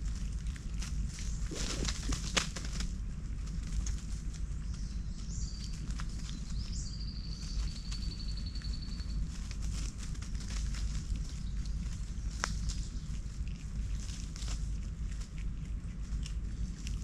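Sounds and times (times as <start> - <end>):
dry leaves crackling and rustling: 0.0 - 17.0
low rumble: 0.0 - 17.0.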